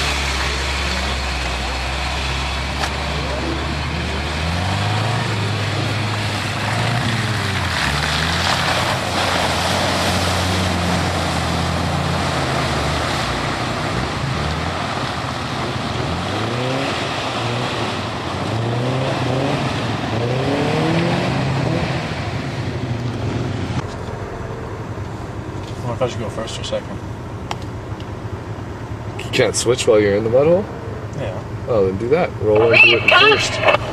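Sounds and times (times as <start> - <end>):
mud and water splashing: 0.0 - 30.6
truck engine revving: 0.0 - 33.9.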